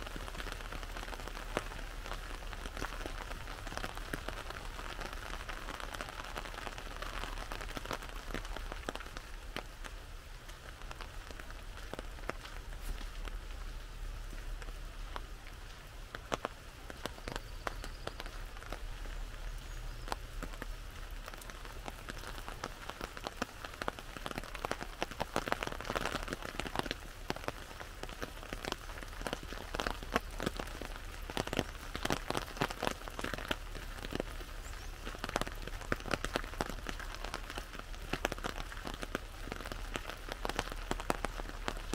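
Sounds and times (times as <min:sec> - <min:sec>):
rain on an umbrella: 0:00.0 - 0:41.9.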